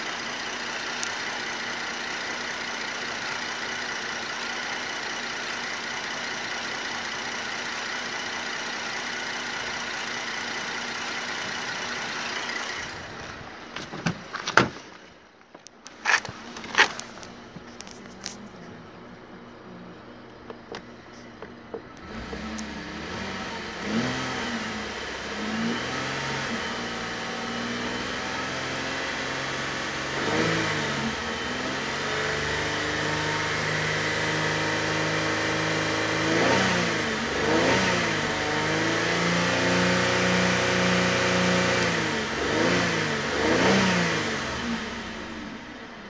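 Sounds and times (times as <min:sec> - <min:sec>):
car engine revving: 0:00.0 - 0:15.1, 0:15.9 - 0:46.0.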